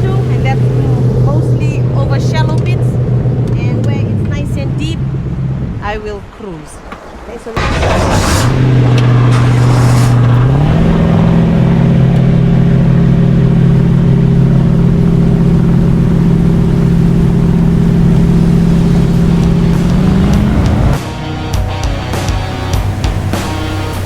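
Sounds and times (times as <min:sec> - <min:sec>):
jet boat engine: 0:00.0 - 0:24.0.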